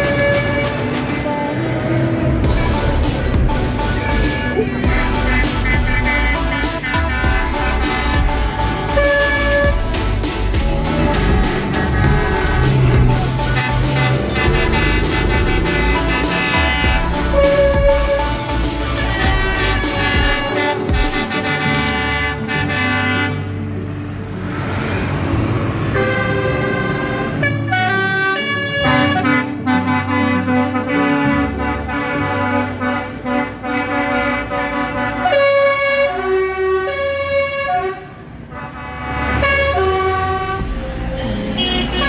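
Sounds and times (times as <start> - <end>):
vehicle horns tooting: 0.0 - 23.8, 25.8 - 42.0
tractor engines rumbling: 0.0 - 42.0.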